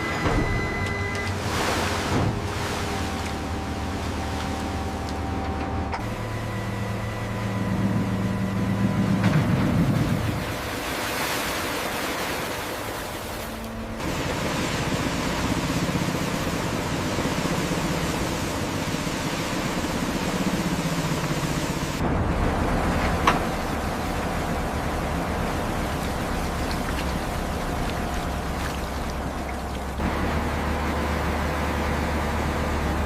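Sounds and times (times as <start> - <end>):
crane engine running: 0.0 - 33.0
low hum: 0.0 - 33.0.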